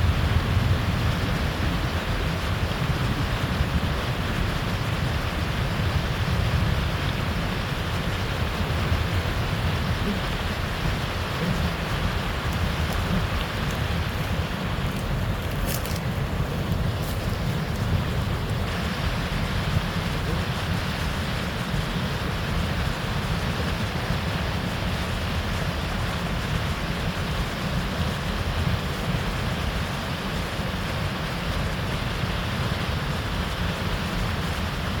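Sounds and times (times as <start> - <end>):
stream water flowing: 0.0 - 35.0
wind rumble on microphone: 0.0 - 35.0.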